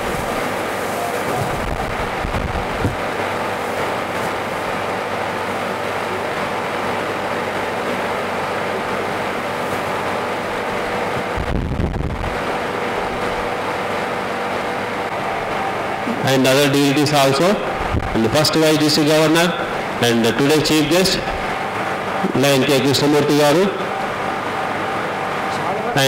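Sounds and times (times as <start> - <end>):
rushing hall noise: 0.0 - 26.0.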